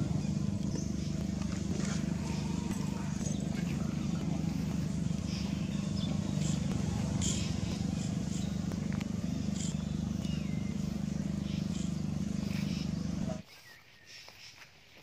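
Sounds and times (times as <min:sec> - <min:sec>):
low engine hum: 0:00.0 - 0:13.4.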